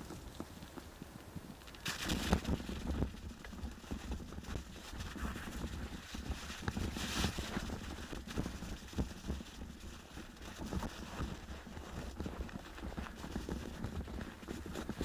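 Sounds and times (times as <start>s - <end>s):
bike knocking and rattling: 0.0s - 15.0s
bike tyres crunching on snow: 0.0s - 15.0s
wind hissing on microphone: 0.0s - 15.0s.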